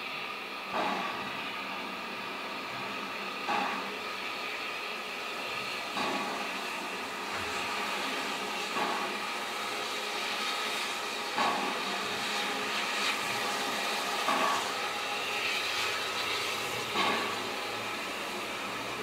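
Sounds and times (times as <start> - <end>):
soft steam beat: 0.0 - 19.0
steam locomotive hissing: 0.0 - 19.0.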